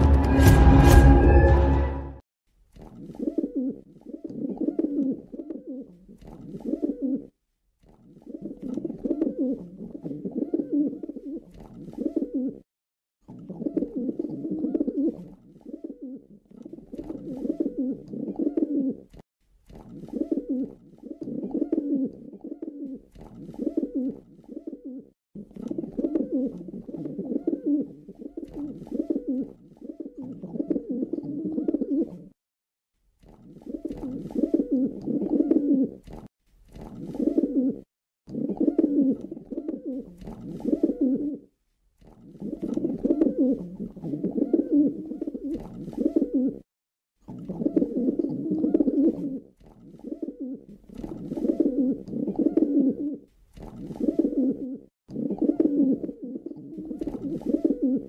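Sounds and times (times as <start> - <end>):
pigeons cooing: 3.1 - 7.3, 8.2 - 12.7, 13.4 - 19.2, 20.0 - 32.4, 33.6 - 36.1, 37.0 - 41.4, 42.3 - 46.7, 47.3 - 58.0.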